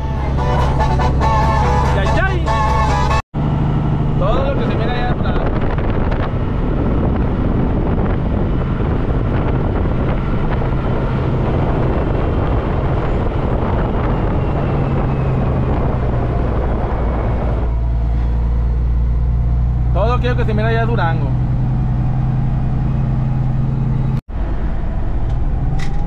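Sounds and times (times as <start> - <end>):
road and wind noise: 0.0 - 26.0
truck engine drone: 0.0 - 26.0.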